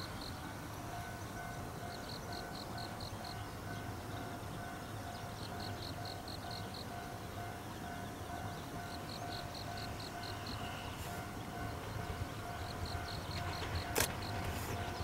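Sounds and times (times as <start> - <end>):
distant level crossing bell: 0.0 - 15.0
insects chirping: 0.0 - 15.0.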